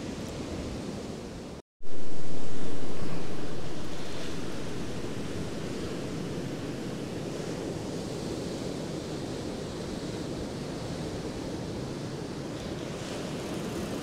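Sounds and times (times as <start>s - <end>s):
waves washing onto beach: 0.0s - 14.0s.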